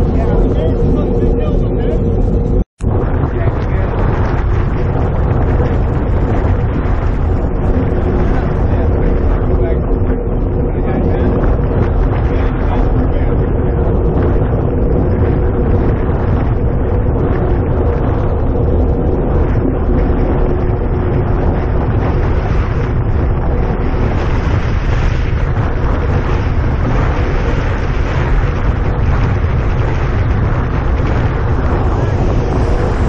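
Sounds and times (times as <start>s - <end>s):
faint hum: 0.0s - 33.0s
wind rushing over microphone: 0.0s - 33.0s.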